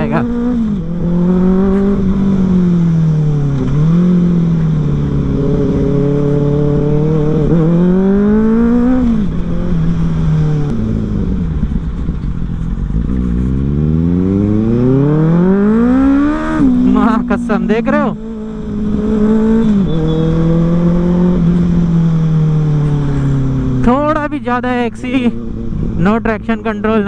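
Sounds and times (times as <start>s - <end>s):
motorcycle accelerating with loud exhaust: 0.0s - 27.0s.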